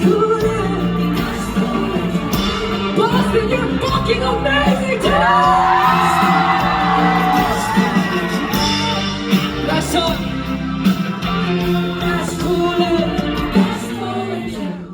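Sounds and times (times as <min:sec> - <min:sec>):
live rock band playing: 0:00.0 - 0:14.2.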